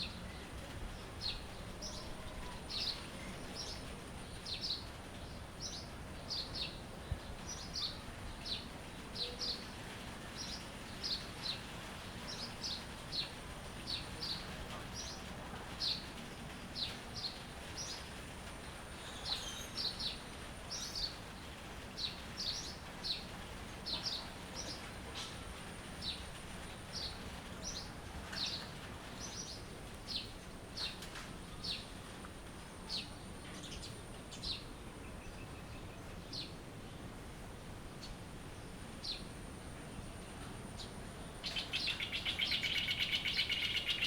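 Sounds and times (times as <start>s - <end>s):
small birds chirping: 0.0s - 36.6s, 39.0s - 44.0s
steady background hiss: 0.0s - 44.0s.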